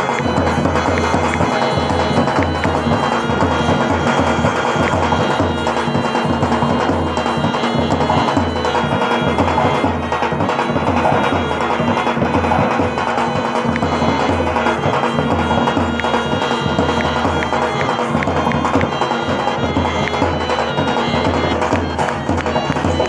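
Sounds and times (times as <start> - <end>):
droning melody instrument: 0.0 - 23.0
sharp clacking percussion: 0.0 - 23.0
steady drum beat: 0.0 - 23.0.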